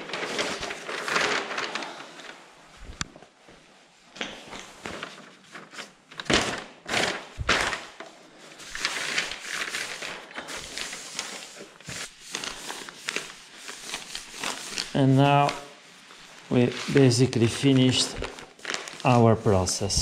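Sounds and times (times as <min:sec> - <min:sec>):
plastic sheet rustling and crinkling: 0:00.0 - 0:20.0.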